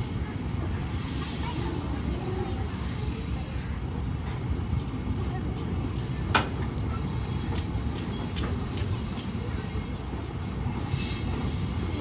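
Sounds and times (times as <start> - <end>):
train coaches rumbling: 0.0 - 12.0.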